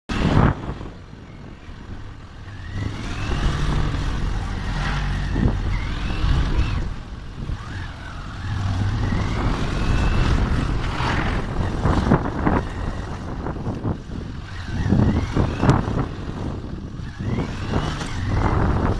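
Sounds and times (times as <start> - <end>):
rising engine whines: 0.1 - 18.9
traffic engine hum: 0.1 - 18.9.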